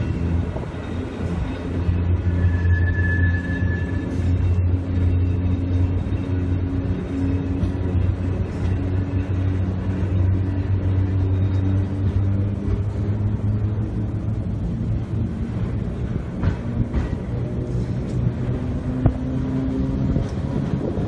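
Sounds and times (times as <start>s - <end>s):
electric tram rumble and hum: 0.0s - 21.0s.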